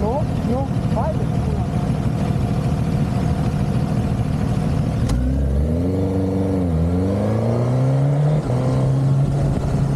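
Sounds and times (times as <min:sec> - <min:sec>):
motorcycle engine accelerating: 0:00.0 - 0:09.9.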